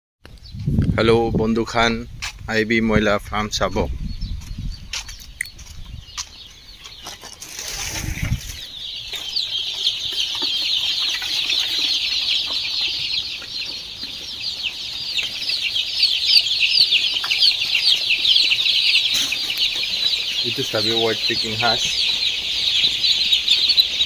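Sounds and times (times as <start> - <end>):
chicks and ducklings peeping: 0.3 - 24.0.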